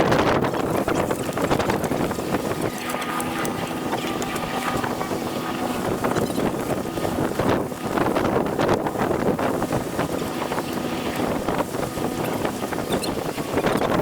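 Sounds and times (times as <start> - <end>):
steady droning tone: 0.0 - 14.0
water rushing past hull: 0.0 - 14.0
wind buffeting microphone: 0.0 - 14.0.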